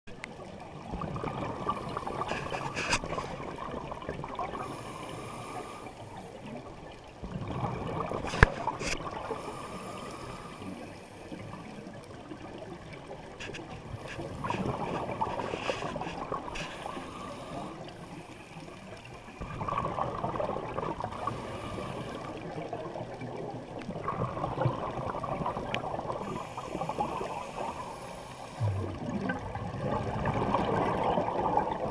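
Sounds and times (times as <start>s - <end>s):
underwater exhaled bubbles: 0.1s - 31.9s.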